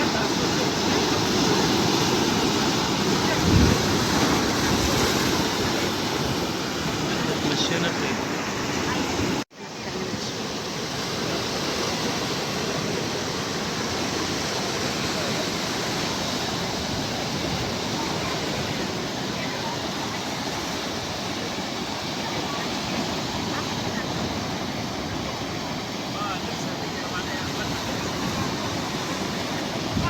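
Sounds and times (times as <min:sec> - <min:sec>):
waves breaking: 0:00.0 - 0:30.0.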